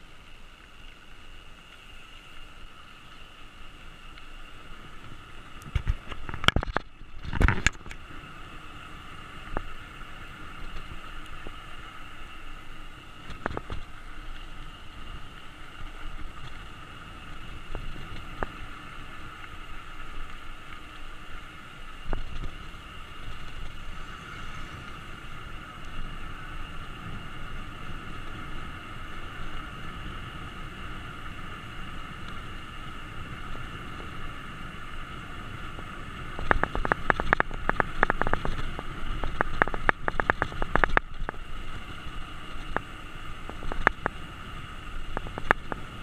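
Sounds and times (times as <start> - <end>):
wind and road noise: 0.0 - 46.0.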